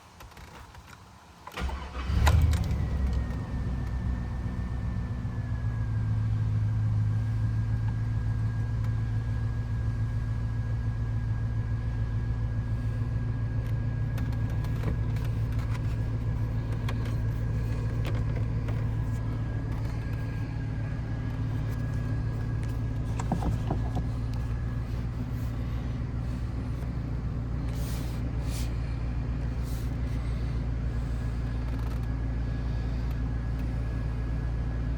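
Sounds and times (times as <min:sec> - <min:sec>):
car engine cranking and idling: 0:00.1 - 0:34.9.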